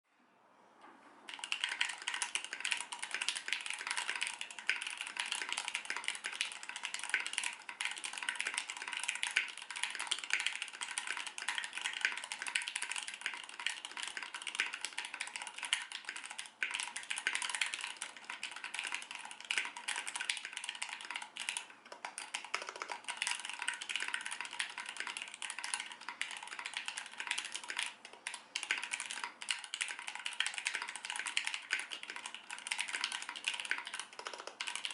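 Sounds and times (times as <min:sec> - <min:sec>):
fast typing on mechanical keyboard: 0:01.3 - 0:34.9.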